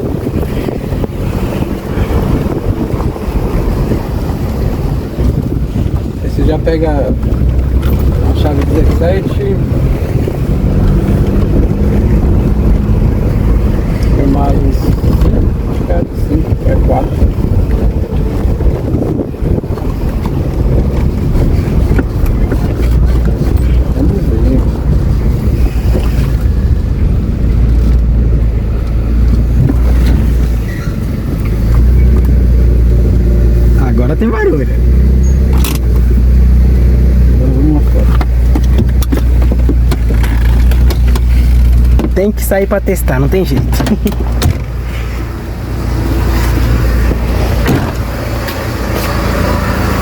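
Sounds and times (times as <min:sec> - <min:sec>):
car engine rumbling: 0:00.0 - 0:50.0.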